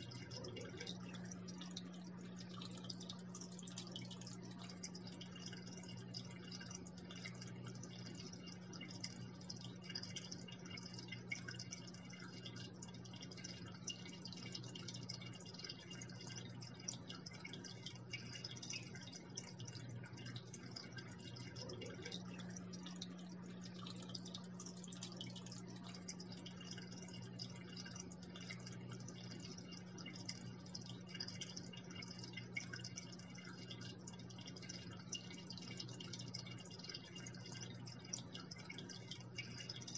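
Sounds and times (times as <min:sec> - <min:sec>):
water trickling into aquarium: 0:00.0 - 0:39.9.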